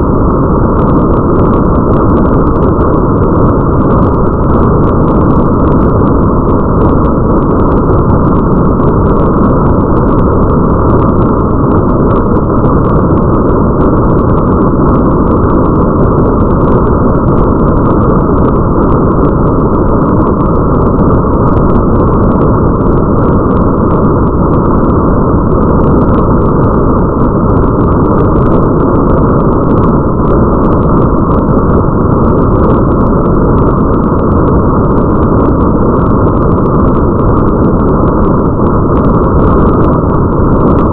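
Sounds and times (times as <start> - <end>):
deep rumble: 0.0 - 40.9
muffled rush of rain: 0.0 - 40.9.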